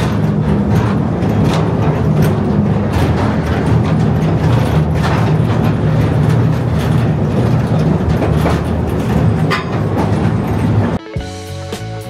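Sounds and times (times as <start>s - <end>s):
locomotive motor hum: 0.0s - 11.0s
wagons rattling on rails: 0.0s - 11.0s.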